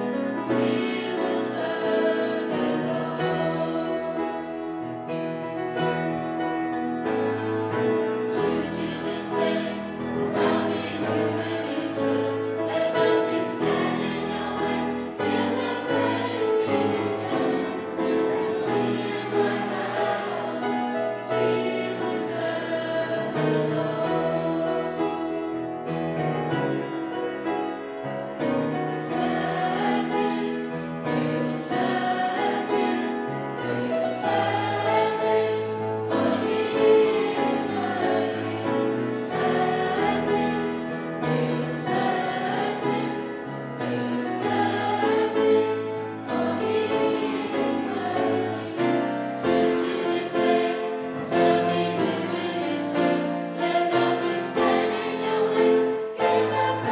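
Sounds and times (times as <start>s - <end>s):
youth choir singing gospel: 0.0s - 5.3s, 8.2s - 26.1s, 28.6s - 56.9s
piano accompaniment: 0.0s - 56.9s.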